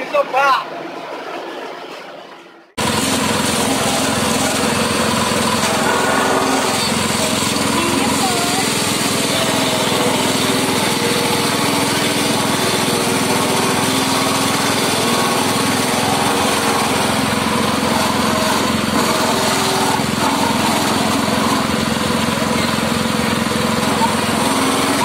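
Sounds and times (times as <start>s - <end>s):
petrol grass chopper running: 2.8s - 25.0s.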